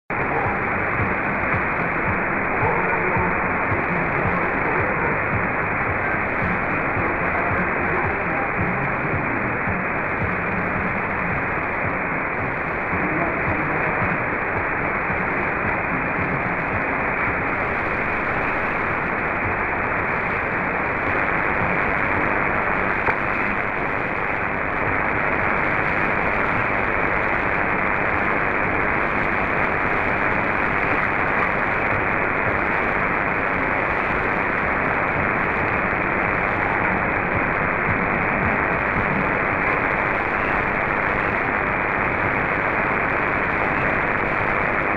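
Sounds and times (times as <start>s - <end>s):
shortwave radio static hiss: 0.0s - 44.9s.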